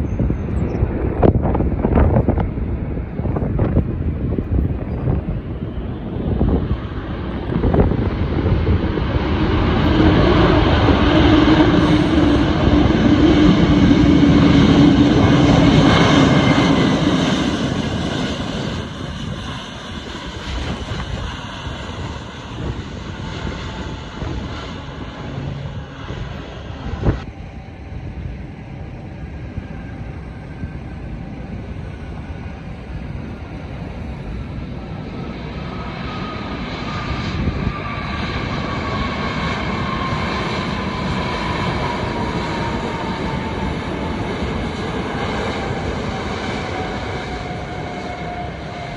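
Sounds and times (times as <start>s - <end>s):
falling engine whines: 0.0s - 48.9s
jet airliner passing: 0.0s - 48.9s.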